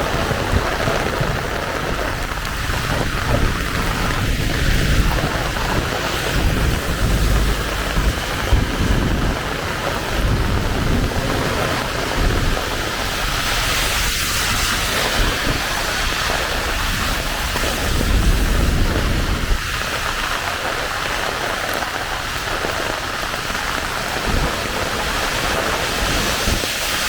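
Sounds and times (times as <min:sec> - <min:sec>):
heavy rain falling: 0:00.0 - 0:27.0
low thunder rumble: 0:00.0 - 0:27.0.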